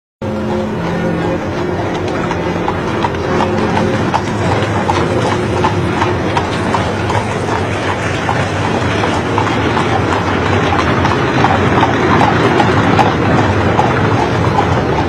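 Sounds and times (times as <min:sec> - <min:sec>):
horse hooves clip-clopping on pavement: 0:00.3 - 0:15.0.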